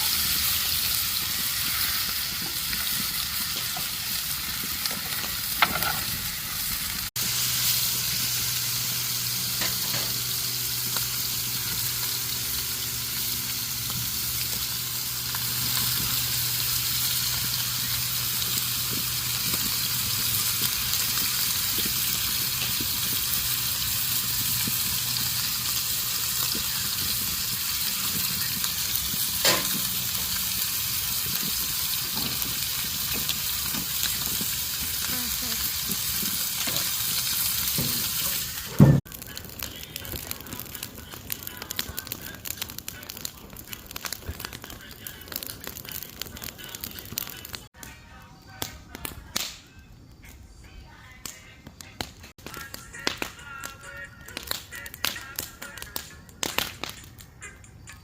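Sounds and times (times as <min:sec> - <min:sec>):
food sizzling over fire: 0:00.0 - 0:58.0.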